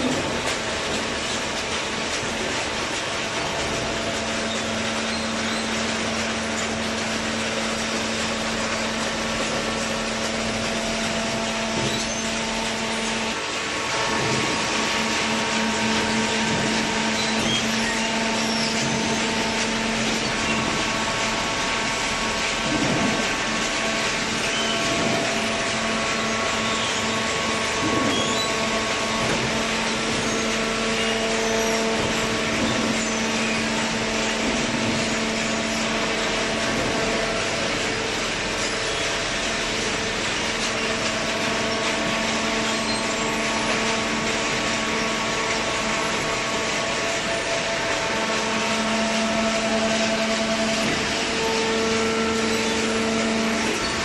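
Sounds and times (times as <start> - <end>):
baler machine humming: 0.0 - 54.0.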